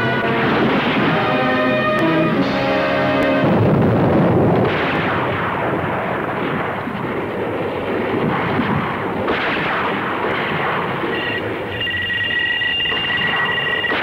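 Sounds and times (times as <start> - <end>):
artillery blasts: 0.0 - 11.8, 12.8 - 14.0
gunfire: 0.0 - 11.8, 12.8 - 14.0.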